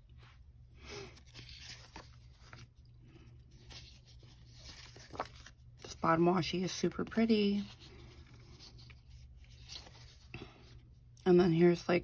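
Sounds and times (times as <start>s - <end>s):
low room hum: 0.0s - 12.0s
paper sheets rustling: 0.8s - 10.6s.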